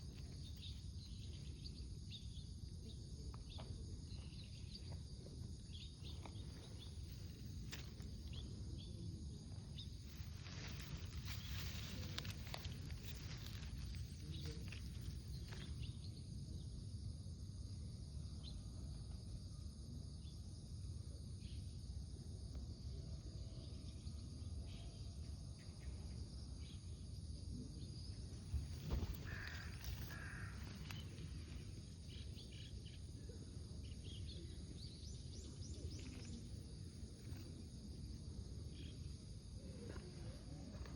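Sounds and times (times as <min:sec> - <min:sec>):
outdoor background rumble: 0:00.0 - 0:19.9, 0:26.1 - 0:40.9.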